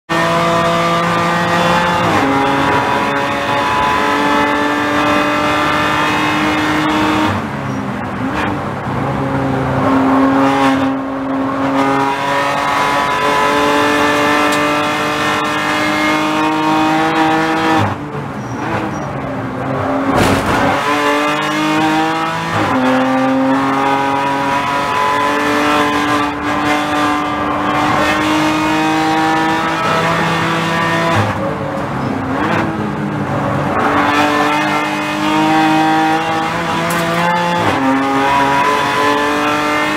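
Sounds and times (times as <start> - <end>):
race car engine revving: 0.1 - 39.9.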